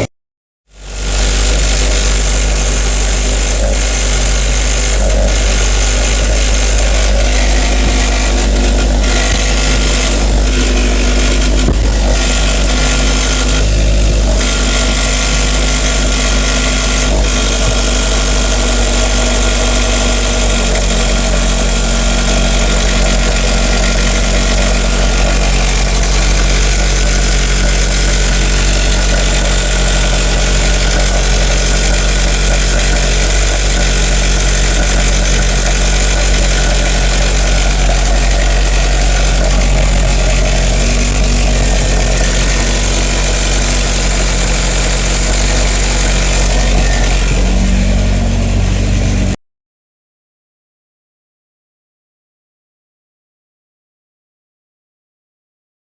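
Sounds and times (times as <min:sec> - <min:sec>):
abnormal mechanical engine noise: 0:00.7 - 0:49.4
car engine idling: 0:00.8 - 0:49.4.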